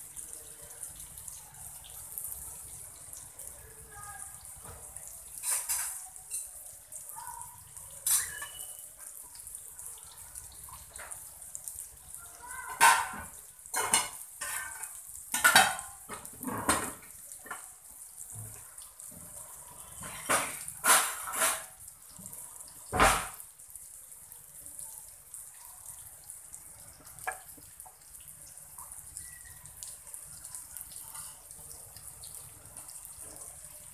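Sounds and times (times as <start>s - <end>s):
fish sizzling in oil: 0.0s - 33.9s.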